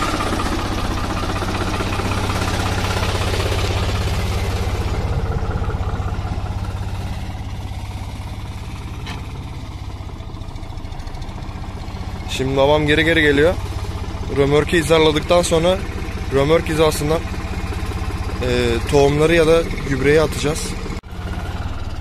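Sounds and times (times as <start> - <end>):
tractor diesel engine knocking: 0.0 - 22.0.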